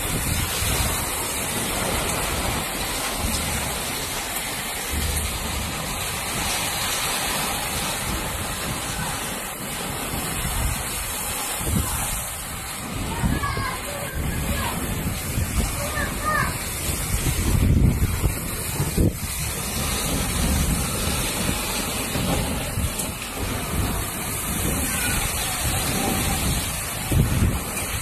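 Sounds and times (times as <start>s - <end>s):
heavy rain pouring: 0.0s - 28.0s
wind rumbling on microphone: 0.0s - 28.0s.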